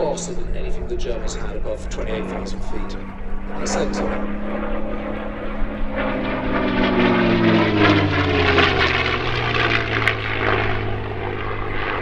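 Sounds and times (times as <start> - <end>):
propeller aircraft engine passing: 0.0 - 12.0.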